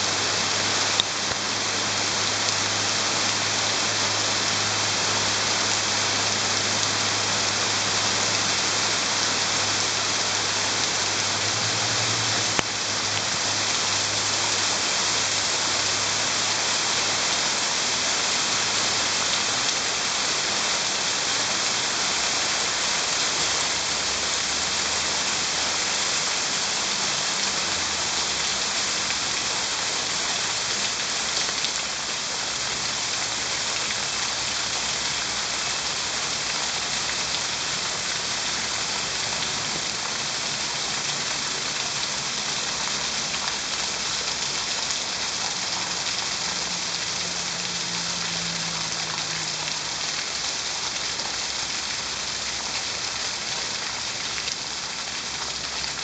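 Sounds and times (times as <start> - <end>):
rain on foliage and roof: 0.0 - 56.0
water running off roof: 0.0 - 56.0.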